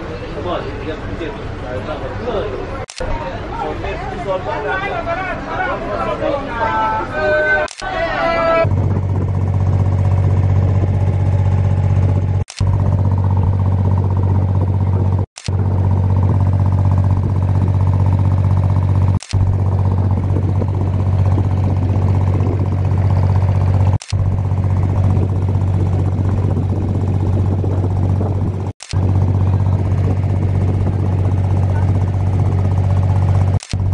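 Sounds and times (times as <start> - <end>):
boat engine running: 0.2 - 33.9.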